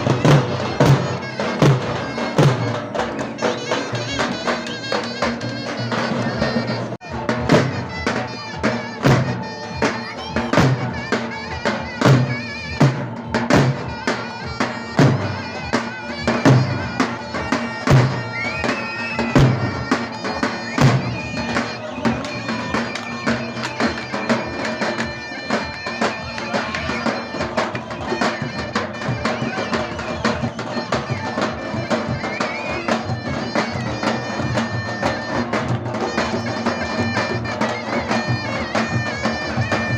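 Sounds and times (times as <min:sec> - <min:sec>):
heavy drum strokes: 0:00.0 - 0:39.9
reed pipe melody: 0:00.0 - 0:39.9.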